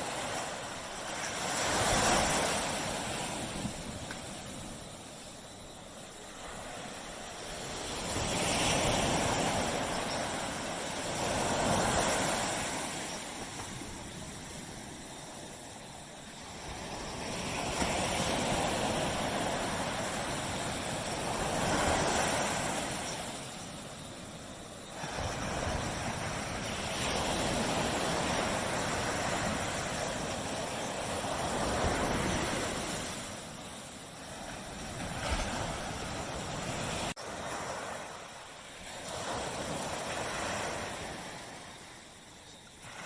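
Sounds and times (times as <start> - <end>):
ocean waves breaking: 0.0 - 43.0.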